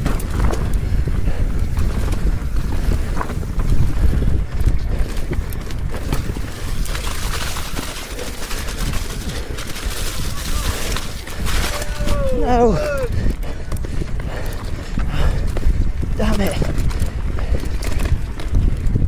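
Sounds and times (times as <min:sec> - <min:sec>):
bike rattling over rough ground: 0:00.0 - 0:19.0
wind buffeting microphone: 0:00.0 - 0:19.0.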